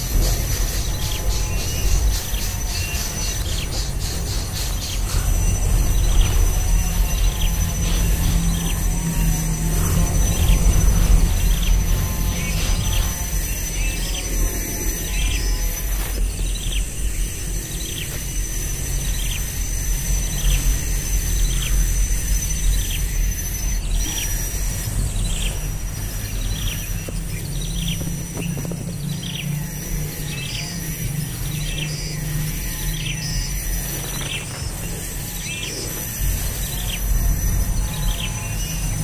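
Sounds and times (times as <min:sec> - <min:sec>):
steady high-pitched whine: 0:00.0 - 0:39.0.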